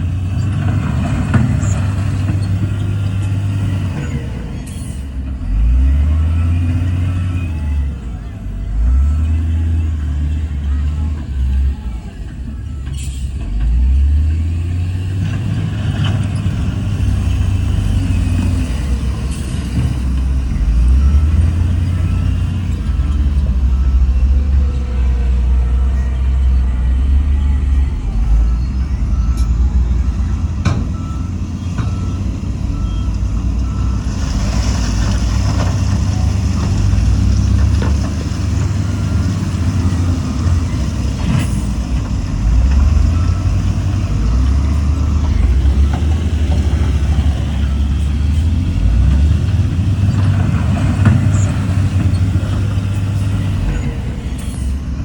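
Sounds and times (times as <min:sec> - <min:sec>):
heavy diesel machinery droning: 0:00.0 - 0:55.0
truck reversing beeper: 0:00.0 - 0:55.0.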